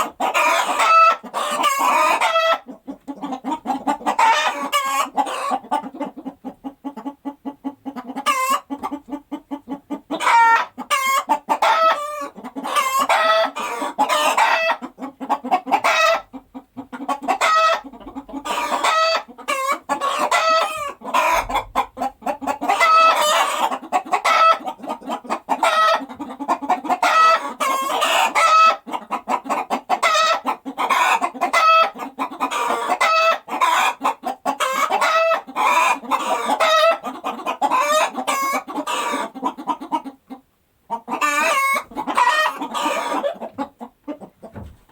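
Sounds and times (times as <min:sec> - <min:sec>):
hen clucking: 0:00.0 - 0:44.9.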